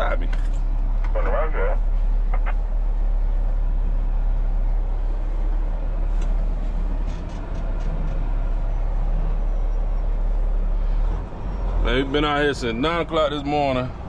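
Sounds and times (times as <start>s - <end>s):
truck diesel engine rumble: 0.0s - 14.0s.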